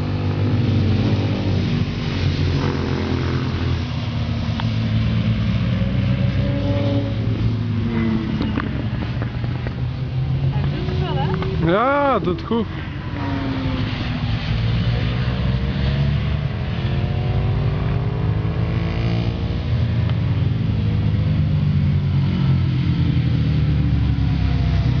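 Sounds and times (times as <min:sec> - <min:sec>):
engines revving: 0:00.0 - 0:25.0.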